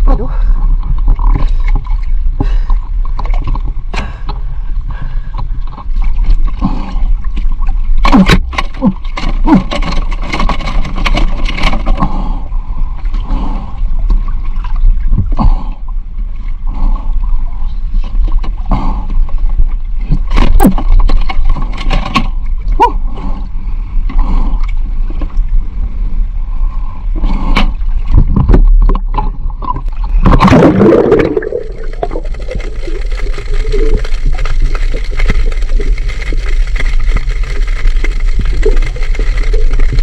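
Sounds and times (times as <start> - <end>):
steady low hum: 0.0 - 40.0
water sloshing around a boat: 0.0 - 40.0.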